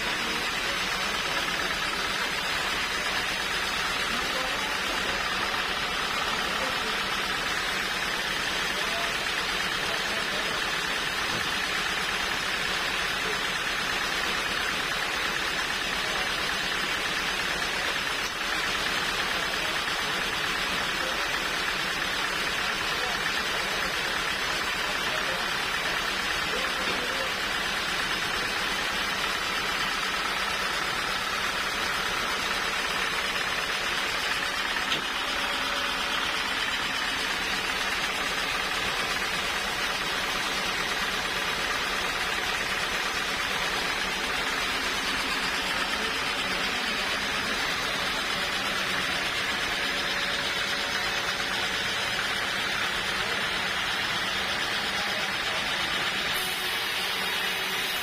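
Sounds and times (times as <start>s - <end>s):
sawmill saw running: 0.0s - 58.0s.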